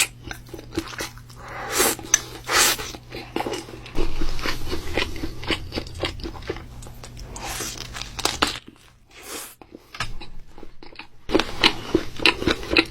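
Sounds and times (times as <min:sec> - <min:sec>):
crunchy chewing of sandwich: 0:00.0 - 0:12.9.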